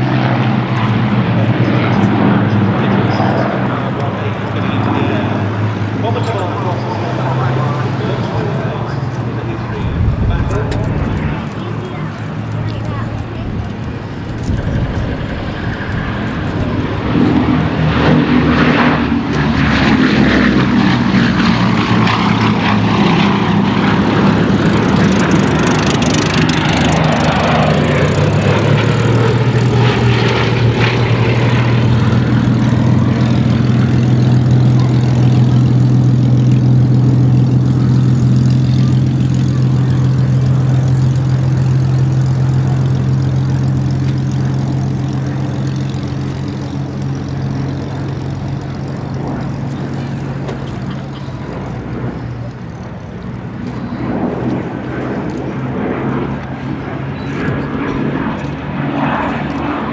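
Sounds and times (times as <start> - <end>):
aircraft propeller engines droning: 0.0 - 59.9.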